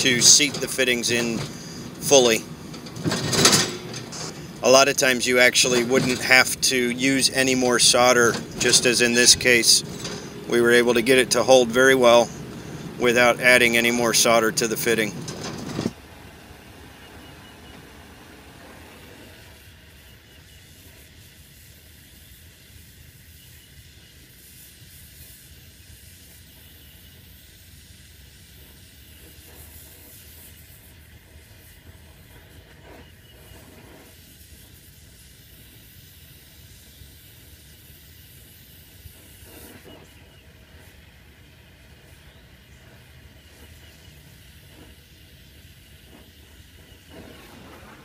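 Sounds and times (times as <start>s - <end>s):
gas torch flame hissing: 0.0s - 16.0s, 17.1s - 48.0s.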